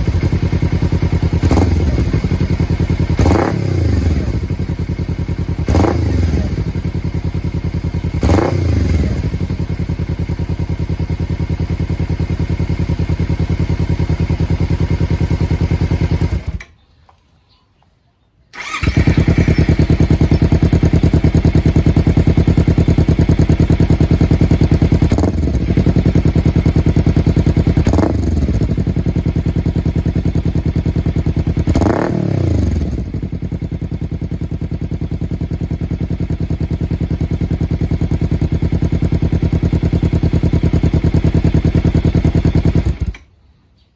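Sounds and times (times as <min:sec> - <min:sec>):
motorcycle engine idling: 0:00.0 - 0:16.6, 0:18.6 - 0:43.3
motorcycle engine revving: 0:00.0 - 0:16.7, 0:18.6 - 0:43.3.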